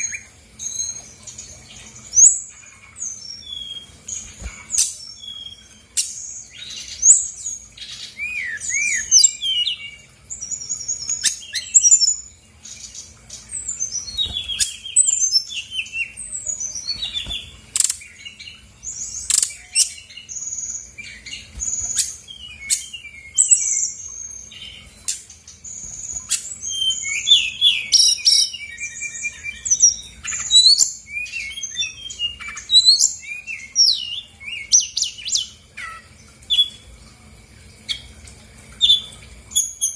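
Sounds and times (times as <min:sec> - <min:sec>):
bird singing whistles and trills: 0:00.0 - 0:36.8.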